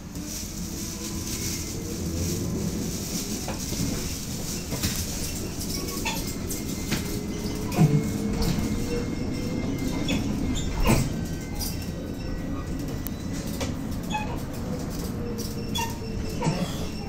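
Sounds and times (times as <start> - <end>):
trolleybus cabin rumble: 0.0 - 17.0.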